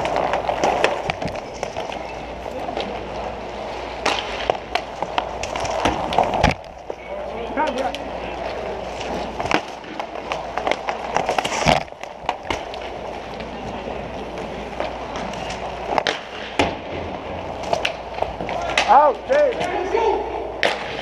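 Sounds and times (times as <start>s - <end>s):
hockey sticks and puck clacking: 0.0s - 21.0s
skate wheels rolling and scraping: 0.0s - 21.0s.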